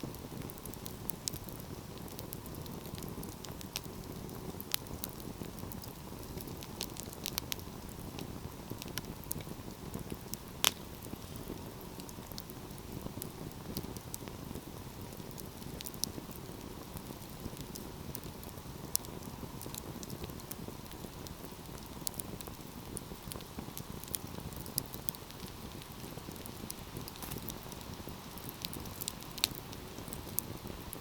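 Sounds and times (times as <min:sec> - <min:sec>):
fire crackling and snapping: 0:00.0 - 0:31.0
low rush of flames: 0:00.0 - 0:31.0.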